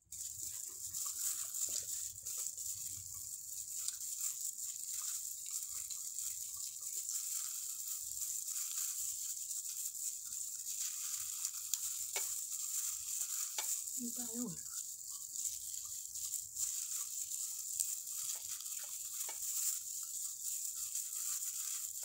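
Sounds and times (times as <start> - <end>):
fried fish crackling: 0.0 - 22.0
soft chewing: 0.0 - 22.0.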